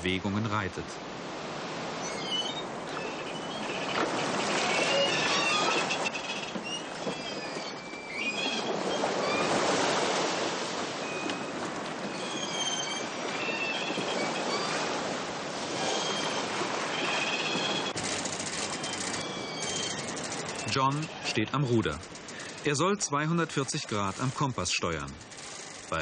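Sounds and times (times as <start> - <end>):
sea and wind rushing: 0.0 - 26.0
short high squeaks: 2.0 - 9.8, 11.0 - 14.9, 15.8 - 26.0.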